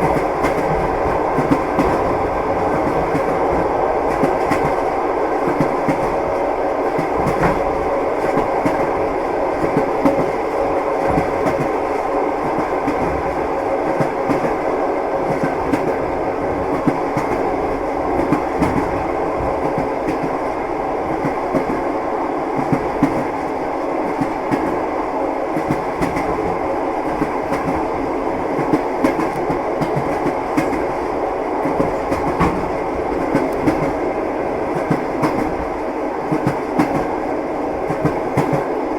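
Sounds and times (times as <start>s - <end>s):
train wheels clattering on rails: 0.0s - 21.9s, 22.5s - 38.8s.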